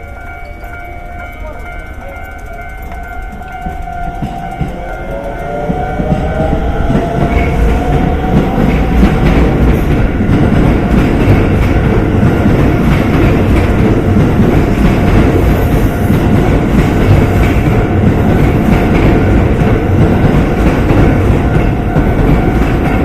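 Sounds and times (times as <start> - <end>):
train wheels clacking on rails: 0.0 - 23.0.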